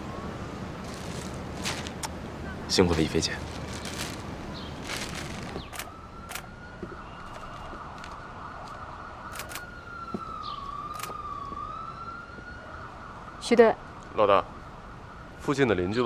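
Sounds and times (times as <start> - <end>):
distant siren wailing: 0.0 - 16.0
faint background noise: 0.0 - 16.0.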